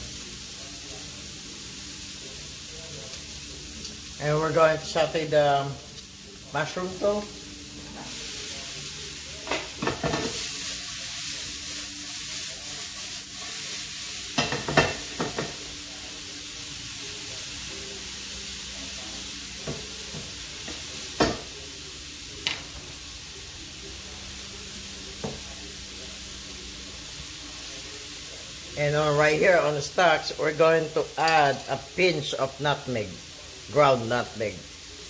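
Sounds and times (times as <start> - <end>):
vegetables sizzling in a frying pan: 0.0 - 35.0.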